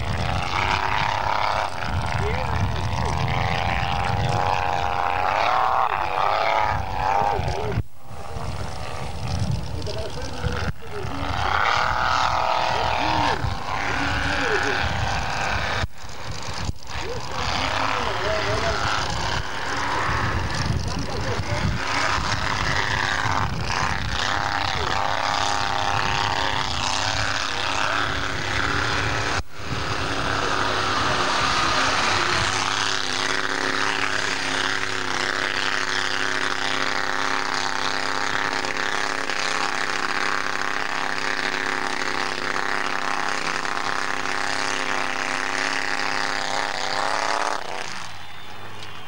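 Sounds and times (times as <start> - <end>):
engine at high revs: 0.0 - 49.0.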